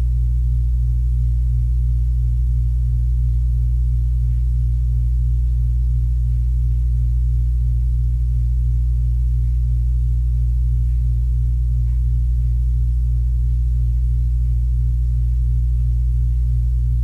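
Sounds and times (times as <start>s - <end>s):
loud low hum: 0.0s - 17.0s.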